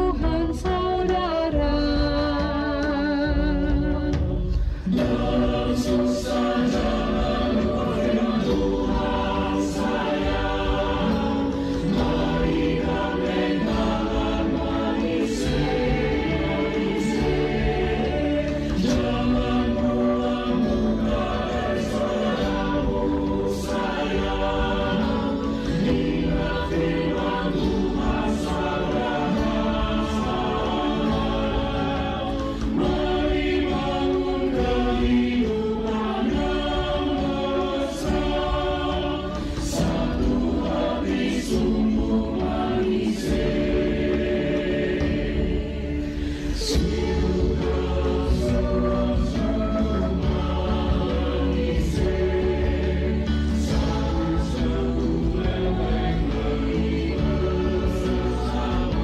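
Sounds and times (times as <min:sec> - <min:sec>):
choir singing: 0:00.0 - 0:59.0
musical backing: 0:00.0 - 0:59.0.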